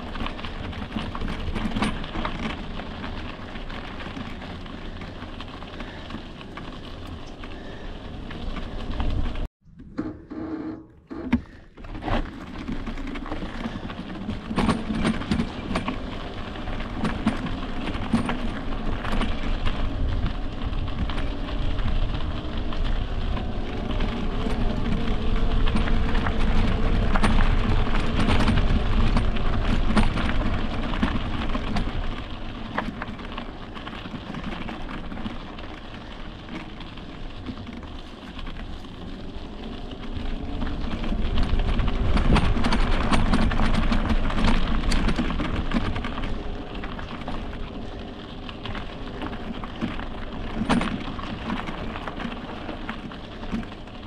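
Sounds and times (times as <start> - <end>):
bike rattles and clicks: 0.0 - 10.0, 11.0 - 54.0
tyre and trail noise: 0.0 - 54.0.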